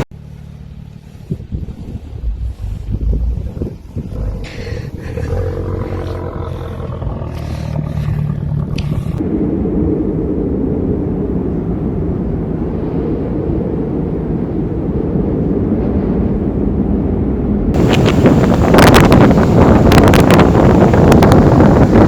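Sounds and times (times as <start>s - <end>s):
vehicle rumbling: 0.0s - 22.0s.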